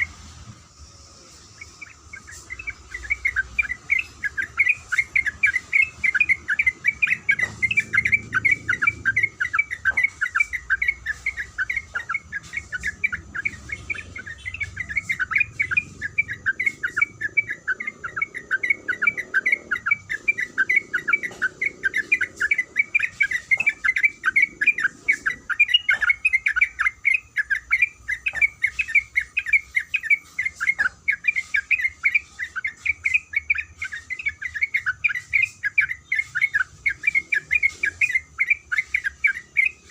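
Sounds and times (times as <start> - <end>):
bulbul repeated calls: 0.0 - 39.9.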